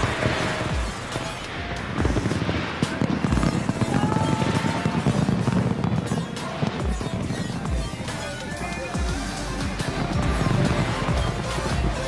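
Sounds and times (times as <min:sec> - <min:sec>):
low firework booms: 0:00.0 - 0:08.1, 0:09.0 - 0:12.0
fireworks crackling: 0:00.0 - 0:12.0
music playing: 0:00.0 - 0:12.0.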